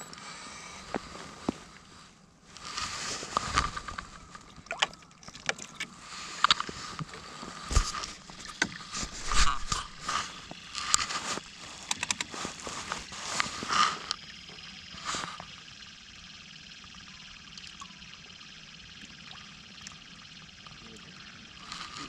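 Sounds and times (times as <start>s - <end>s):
faint hum: 0.0s - 22.0s
rod and reel clicks: 2.6s - 22.0s.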